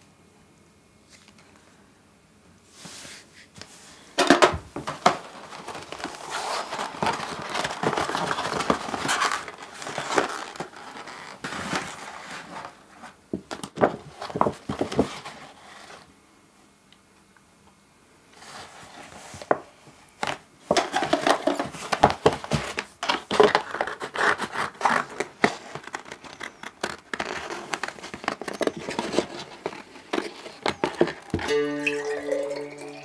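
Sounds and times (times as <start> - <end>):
cardboard rustling and scraping: 2.7 - 16.1, 18.3 - 31.5.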